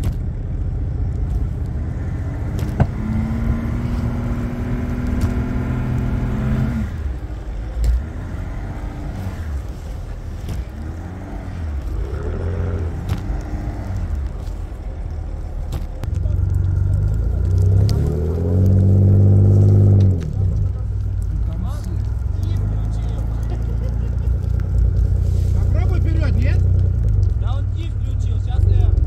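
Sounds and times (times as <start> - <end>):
truck engine driving through snow: 0.0 - 29.0.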